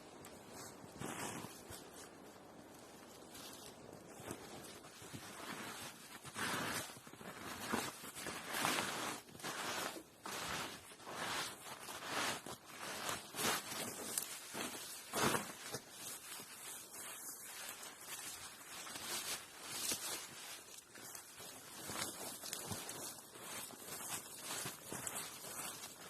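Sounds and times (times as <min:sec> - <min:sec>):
rustling: 0:00.2 - 0:26.0.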